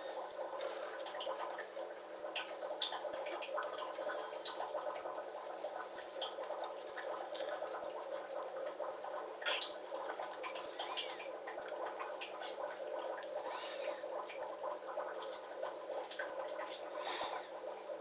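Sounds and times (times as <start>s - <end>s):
birds pecking at wet leaves: 0.0s - 17.5s
faint steady hum: 0.0s - 18.0s.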